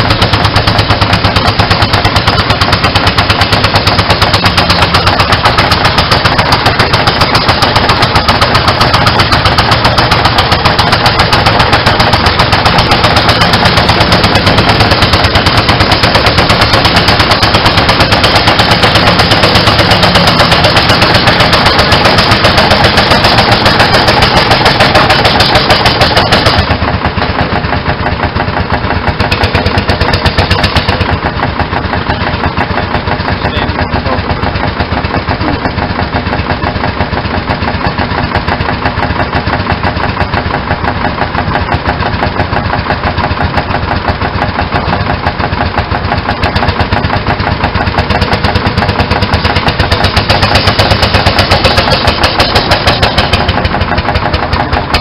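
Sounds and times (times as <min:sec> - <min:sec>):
tractor engine at full throttle: 0:00.0 - 0:55.0.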